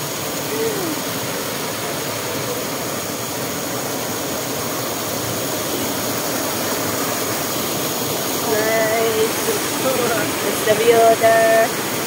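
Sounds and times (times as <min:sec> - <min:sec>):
waterfall roaring into pool: 0:00.0 - 0:12.0.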